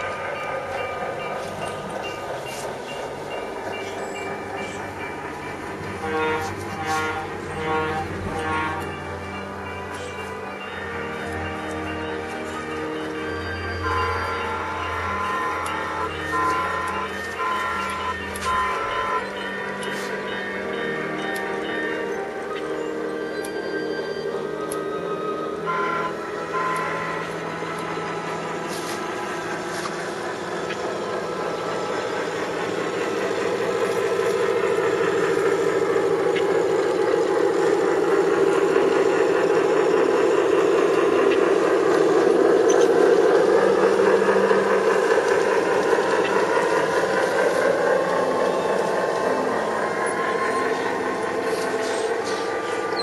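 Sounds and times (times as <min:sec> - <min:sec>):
model train diesel engine sound: 0:00.0 - 0:53.0.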